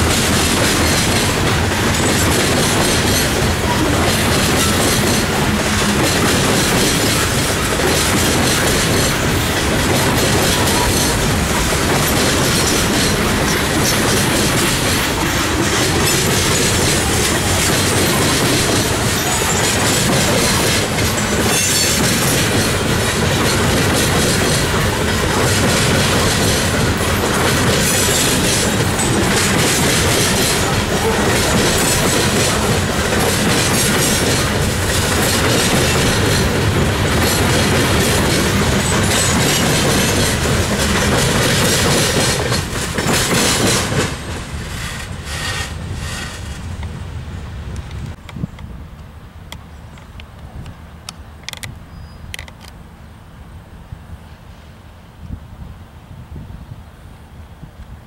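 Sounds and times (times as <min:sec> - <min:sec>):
steel wheels clacking over joints: 0:00.0 - 0:46.9
freight train rolling past: 0:00.0 - 0:58.0.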